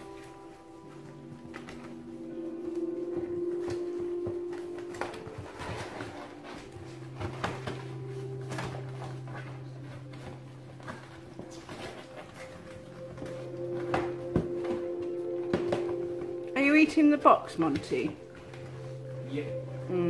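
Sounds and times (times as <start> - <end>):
steady held tones: 0.0 - 20.0
puppies scuffling with cardboard box: 0.1 - 16.8, 17.6 - 19.9.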